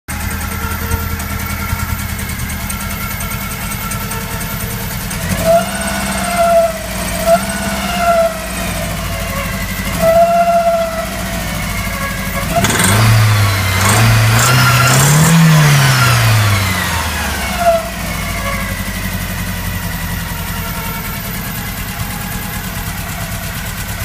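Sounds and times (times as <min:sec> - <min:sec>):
car engine idling and revving: 0:00.1 - 0:24.0.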